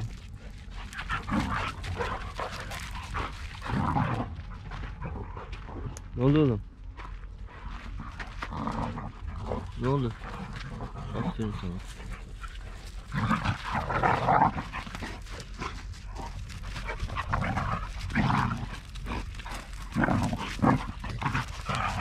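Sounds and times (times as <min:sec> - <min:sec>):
dogs vocalising: 0:00.3 - 0:05.9, 0:07.9 - 0:22.0.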